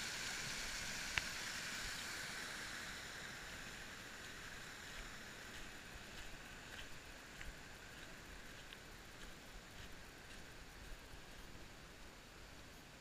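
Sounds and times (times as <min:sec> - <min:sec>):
water rushing over waterfall: 0:00.0 - 0:12.6.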